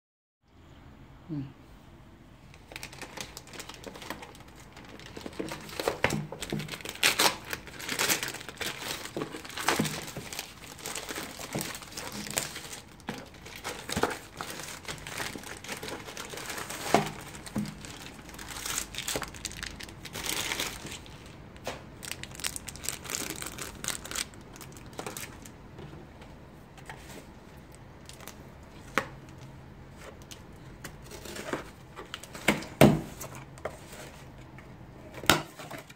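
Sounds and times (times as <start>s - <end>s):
plastic crinkling and ripping: 2.5s - 25.6s, 26.8s - 34.4s.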